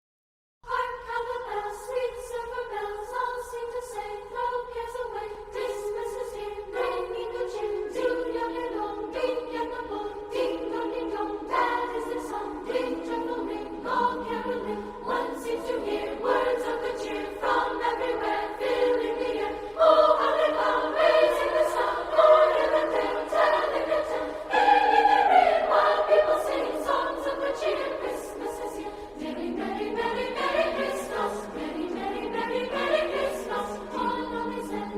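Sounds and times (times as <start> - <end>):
choir singing held chords: 0.6 - 34.9.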